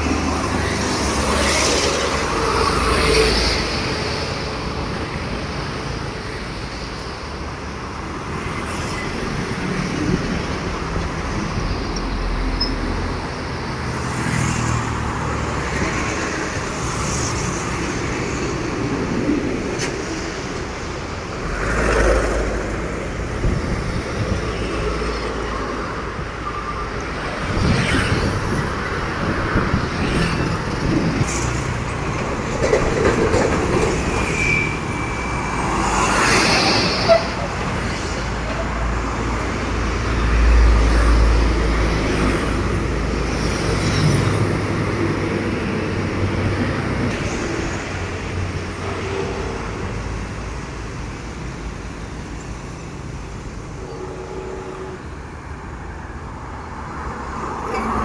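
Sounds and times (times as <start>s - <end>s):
heavy trucks passing close: 0.0s - 58.0s.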